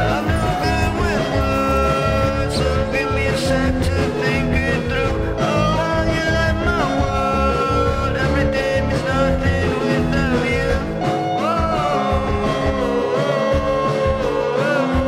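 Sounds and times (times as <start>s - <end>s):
song with melody over a beat: 0.0s - 15.0s.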